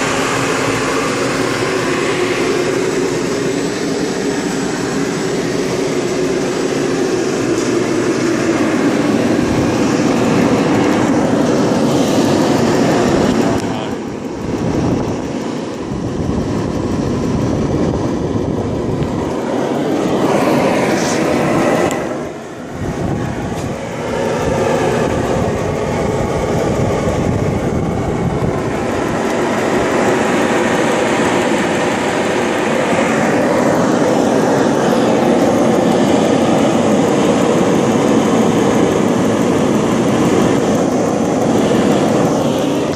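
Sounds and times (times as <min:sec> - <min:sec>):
heater fan and burner rushing: 0:00.0 - 0:42.9.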